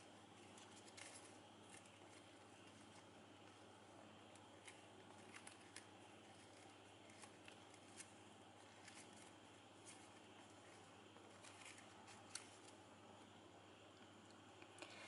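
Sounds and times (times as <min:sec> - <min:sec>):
ribbon crinkling: 0:00.0 - 0:12.9.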